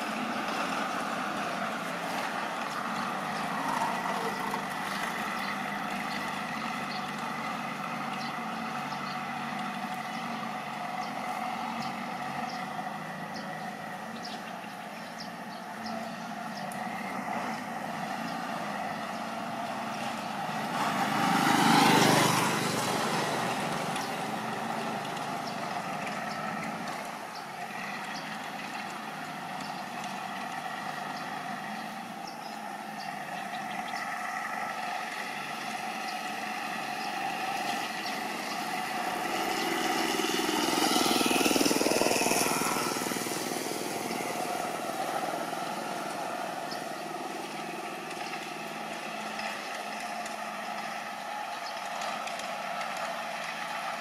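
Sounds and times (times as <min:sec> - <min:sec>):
engine drone: 0:00.0 - 0:54.0
vehicle passing close by: 0:00.0 - 0:54.0.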